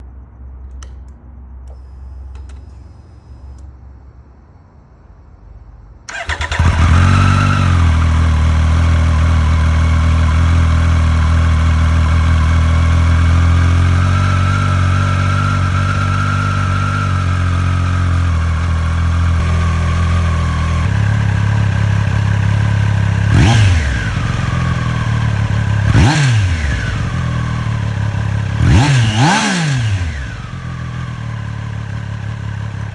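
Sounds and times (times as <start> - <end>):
motorcycle engine starting: 1.7 - 3.7, 6.1 - 32.9
motorcycle engine idling: 6.1 - 32.9.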